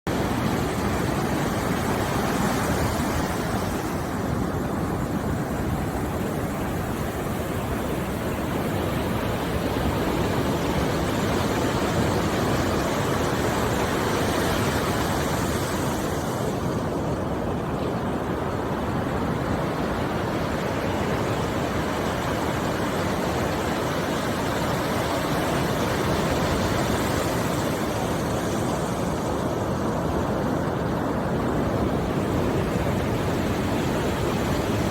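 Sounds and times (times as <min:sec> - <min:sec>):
steady rushing noise: 0:00.1 - 0:34.9.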